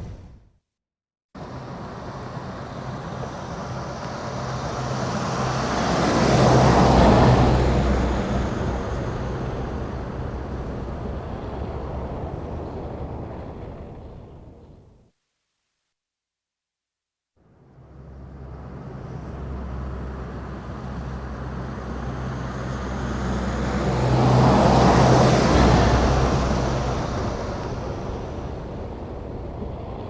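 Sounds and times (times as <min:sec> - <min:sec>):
motor vehicle passing by: 0:01.4 - 0:14.6, 0:17.4 - 0:30.0.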